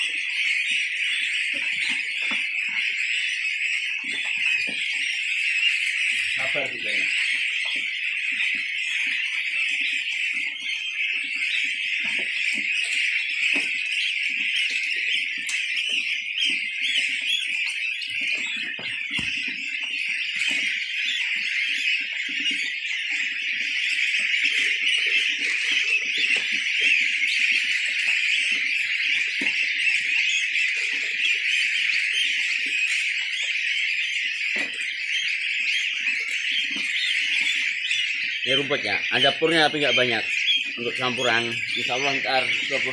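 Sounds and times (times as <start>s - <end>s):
goslings peeping: 0.0s - 42.9s.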